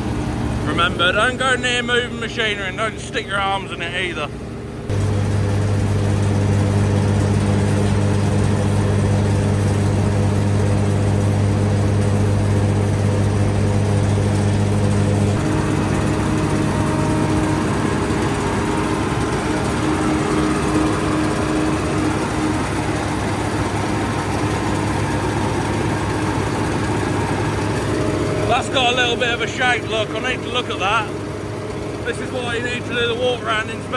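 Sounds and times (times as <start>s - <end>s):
combine harvester running: 0.0s - 33.9s
steady low hum: 0.0s - 33.9s.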